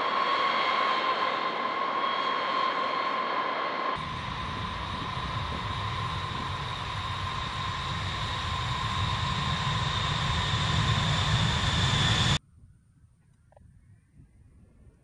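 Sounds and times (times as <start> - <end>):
jet engines rumbling and whining: 0.0 - 12.4.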